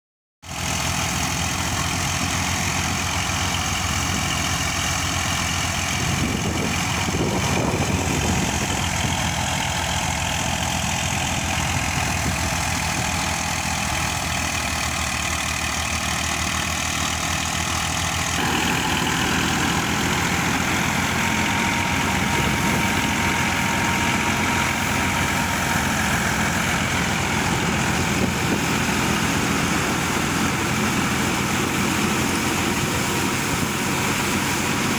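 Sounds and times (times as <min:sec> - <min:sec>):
tractor diesel engine running: 0:00.4 - 0:34.9
thresher whirring and rattling: 0:00.5 - 0:34.9.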